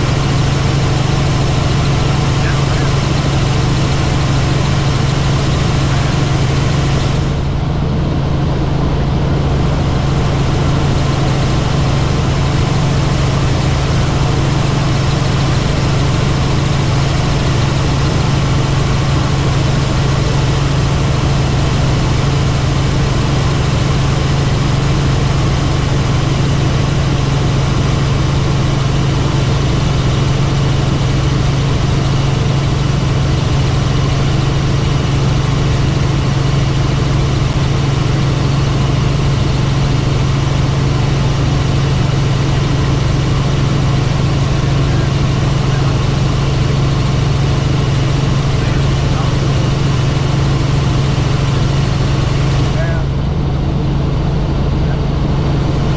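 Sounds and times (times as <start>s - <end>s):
helicopter rotor and engine drone: 0.0s - 55.9s.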